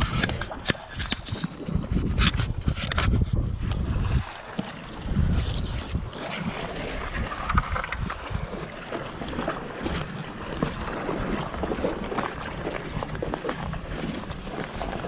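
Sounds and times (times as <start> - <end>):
small waves lapping rocks: 0.0 - 15.0
wind buffeting microphone: 0.0 - 15.0.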